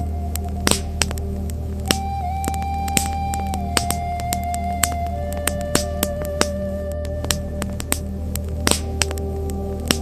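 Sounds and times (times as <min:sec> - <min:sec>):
low rumble: 0:00.0 - 0:10.0
wood fire crackling and popping: 0:00.0 - 0:10.0.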